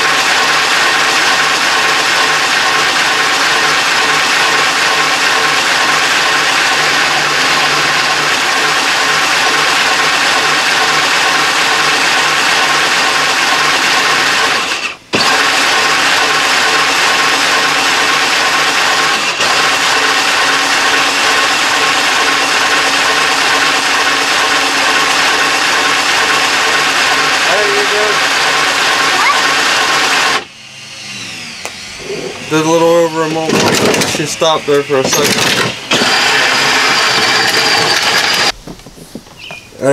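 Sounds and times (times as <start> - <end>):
toy car electric motors whirring: 0.0 - 38.6.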